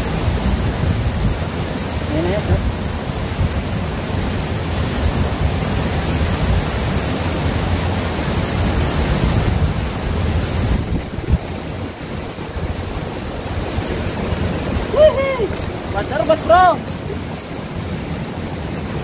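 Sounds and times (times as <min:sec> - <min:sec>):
wind buffeting microphone: 0:00.0 - 0:07.1, 0:08.3 - 0:18.2
river flowing: 0:00.0 - 0:19.0.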